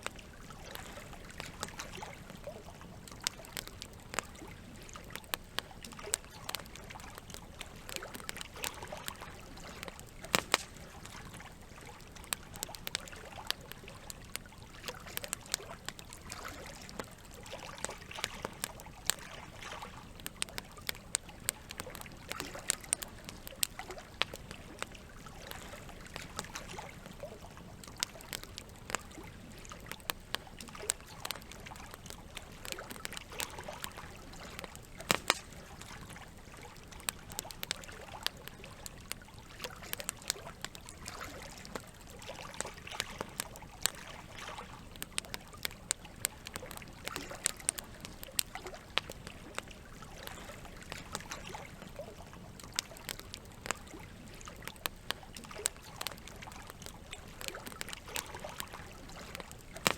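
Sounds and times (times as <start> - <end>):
campfire crackling: 0.0 - 59.9
gently moving water: 0.0 - 59.9.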